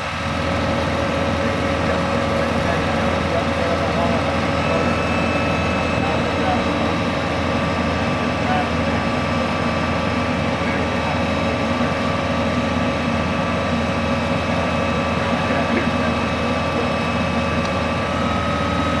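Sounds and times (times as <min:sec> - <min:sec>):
drill rig engine drone: 0:00.0 - 0:19.0
steady whining tones: 0:00.0 - 0:19.0.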